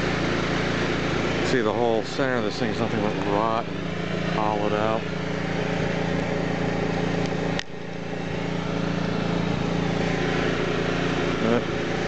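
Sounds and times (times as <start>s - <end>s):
portable generator humming: 0.0s - 12.0s.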